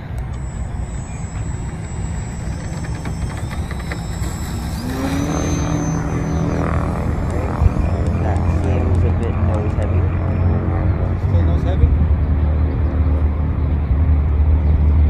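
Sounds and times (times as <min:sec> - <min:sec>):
steady low noise: 0:00.0 - 0:14.6
electric motor and propeller whine: 0:00.0 - 0:15.0.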